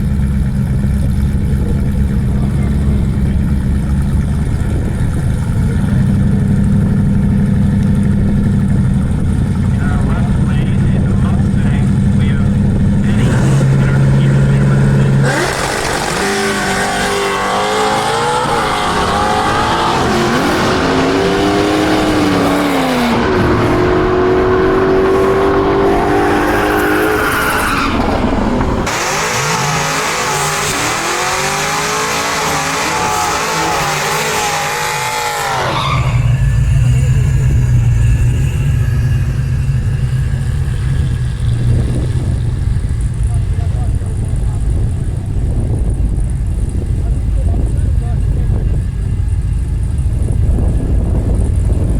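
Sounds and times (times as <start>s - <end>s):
drag racing cars accelerating: 0.0s - 51.9s
low engine drone: 0.0s - 51.9s.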